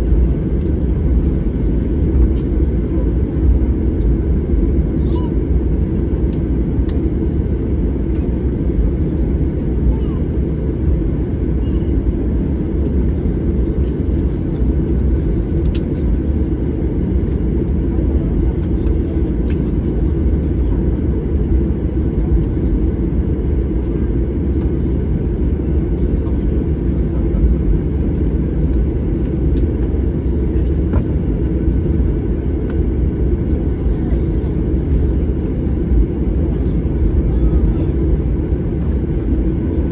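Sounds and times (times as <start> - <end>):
aircraft cabin low rumble: 0.0 - 39.9.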